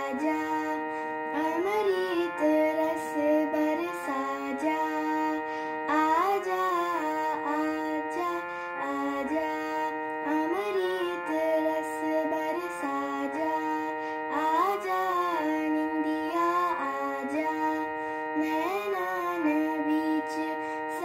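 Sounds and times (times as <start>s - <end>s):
girl singing: 0.0s - 21.0s
keyboard held notes: 0.0s - 21.0s.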